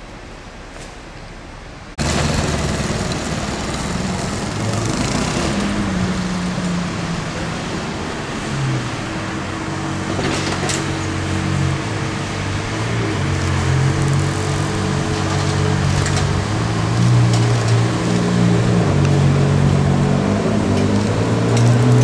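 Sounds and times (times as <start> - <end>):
car engine at low revs: 2.0 - 22.0.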